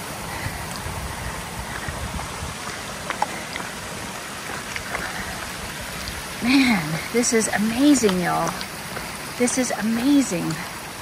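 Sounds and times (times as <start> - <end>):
mountain stream running: 0.0 - 11.0.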